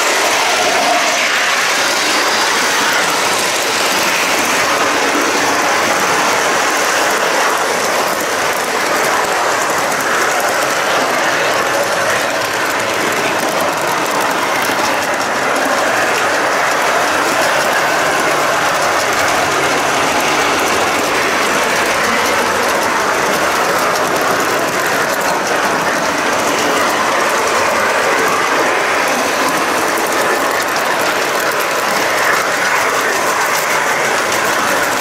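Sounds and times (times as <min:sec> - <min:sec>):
model train wheels rattling: 0:00.0 - 0:35.0.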